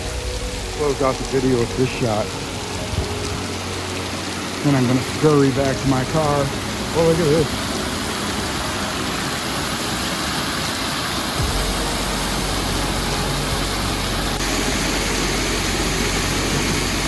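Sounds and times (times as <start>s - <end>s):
low rumble: 0.0s - 9.8s, 11.4s - 17.0s
waterfall rushing: 0.0s - 17.0s.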